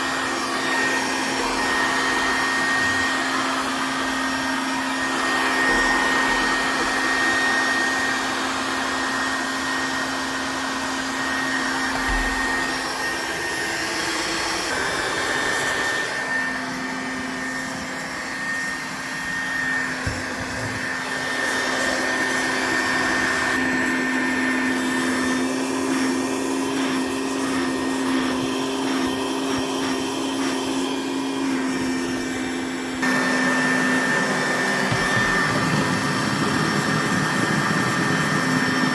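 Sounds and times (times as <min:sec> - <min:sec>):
handheld vacuum running: 0:00.0 - 0:38.9.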